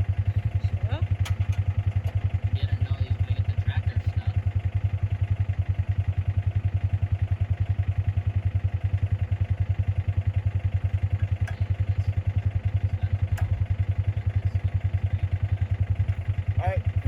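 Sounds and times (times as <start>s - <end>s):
small vehicle engine running: 0.0s - 17.0s.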